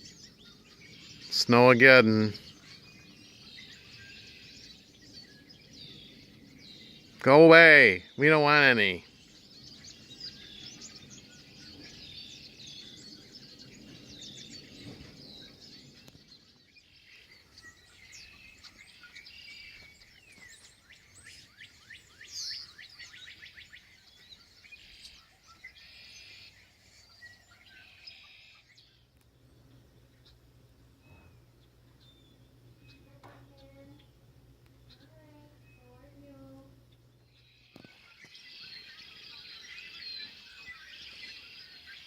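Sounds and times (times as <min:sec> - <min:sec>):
bird trill: 0:00.0 - 0:29.1, 0:34.8 - 0:42.0
songbirds chirping: 0:00.0 - 0:42.0.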